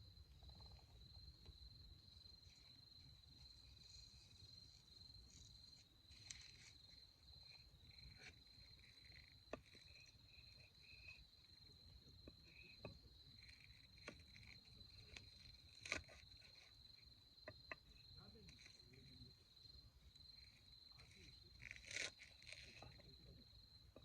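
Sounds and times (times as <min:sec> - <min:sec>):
cricket trilling: 0:00.0 - 0:24.0.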